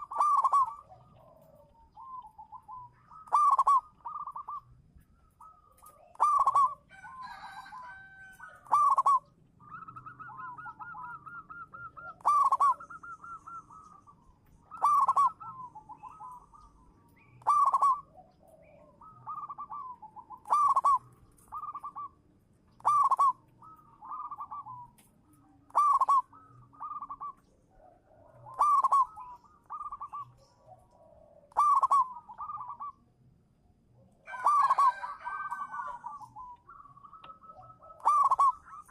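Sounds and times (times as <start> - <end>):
dove cooing: 0.0 - 33.1, 33.9 - 38.9.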